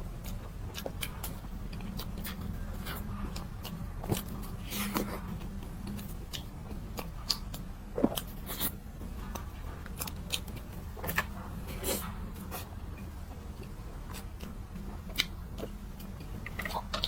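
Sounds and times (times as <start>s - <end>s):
steady low hum: 0.0s - 17.0s
person chewing and biting: 0.1s - 17.0s.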